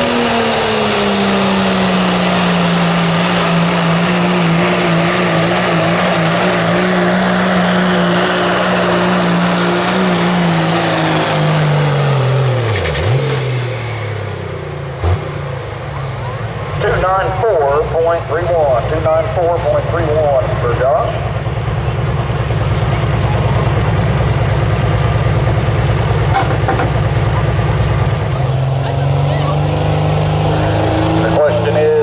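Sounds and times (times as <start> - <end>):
truck engine revving under load: 0.0 - 32.0.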